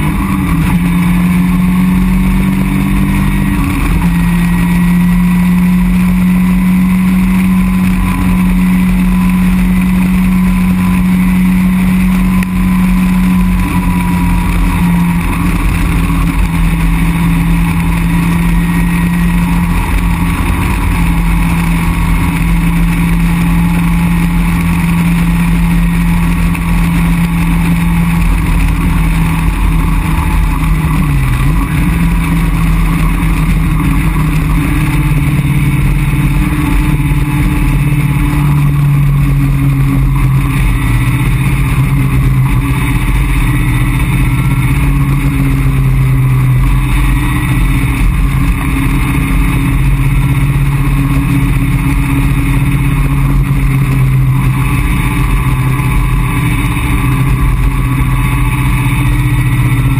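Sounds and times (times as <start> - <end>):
car engine cruising: 0.0 - 59.9.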